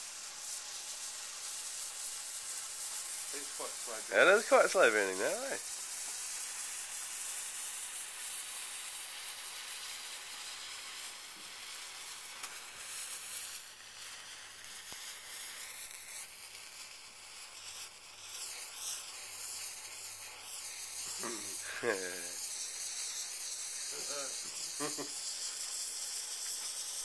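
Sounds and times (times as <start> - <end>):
fuse wick sizzling: 0.0 - 27.0.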